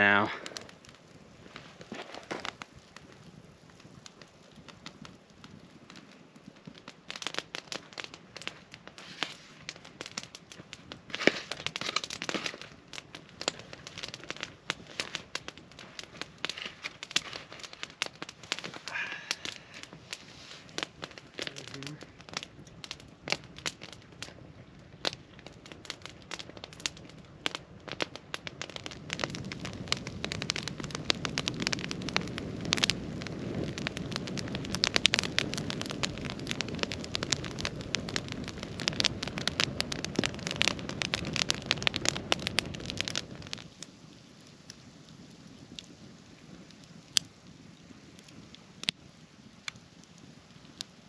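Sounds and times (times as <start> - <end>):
campfire crackling and popping: 0.0 - 51.0.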